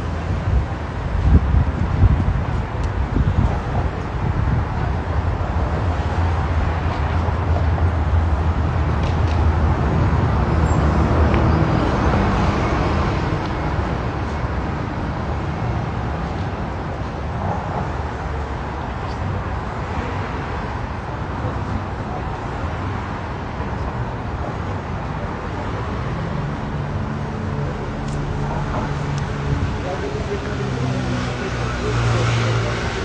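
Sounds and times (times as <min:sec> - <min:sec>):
road noise: 0:00.0 - 0:33.0
vehicle engine rumble: 0:00.0 - 0:33.0.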